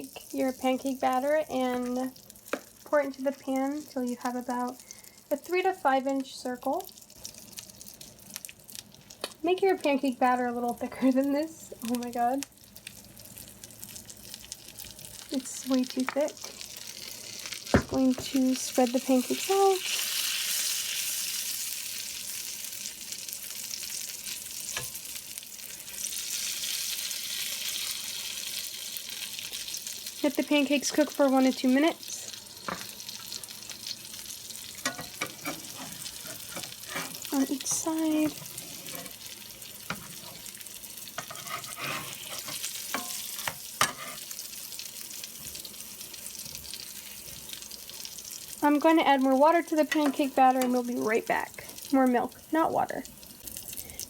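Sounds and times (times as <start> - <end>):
batter sizzling in a pan: 0.0 - 54.0.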